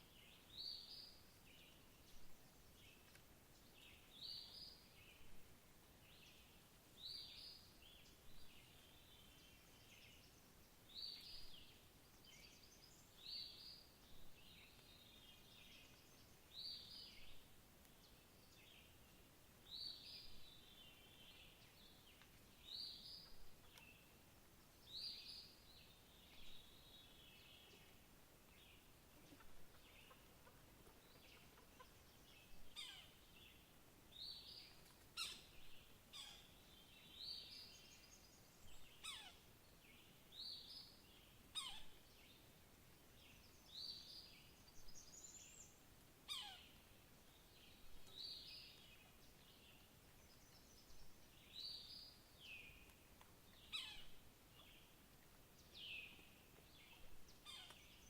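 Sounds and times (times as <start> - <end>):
faint outdoor background: 0.0 - 58.0
songbird song phrase: 0.0 - 58.0.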